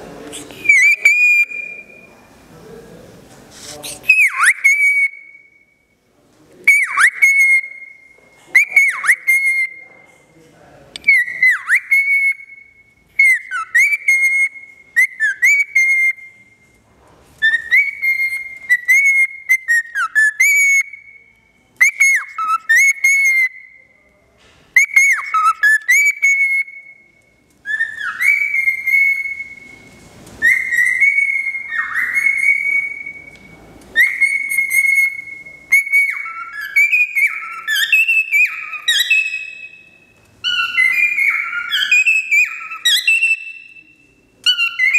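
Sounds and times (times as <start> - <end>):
cockatiel whistling: 0.3 - 2.2, 3.8 - 5.6, 6.6 - 10.0, 11.0 - 16.4, 17.4 - 21.2, 21.8 - 23.8, 24.8 - 44.9.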